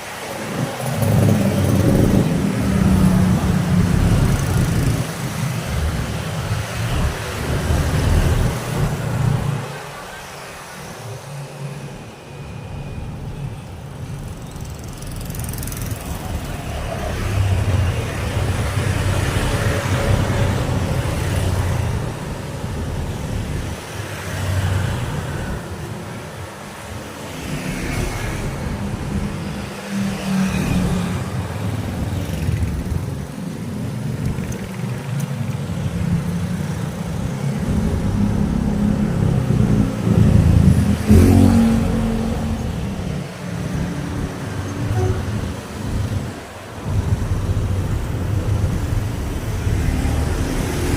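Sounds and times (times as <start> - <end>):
vehicles passing: 0.0 - 50.9.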